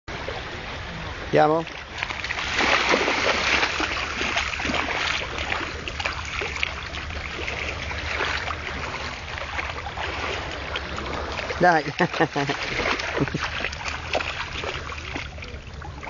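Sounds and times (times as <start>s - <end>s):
sea water splashing: 0.1s - 16.0s.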